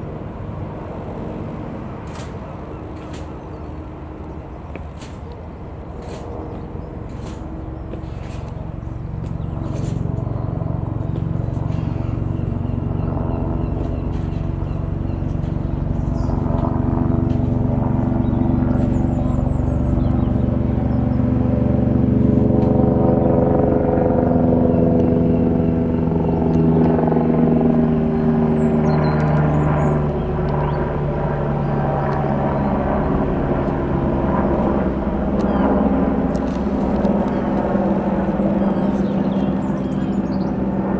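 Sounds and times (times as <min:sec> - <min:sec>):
helicopter rotor pulsing drone: 0:00.0 - 0:40.9.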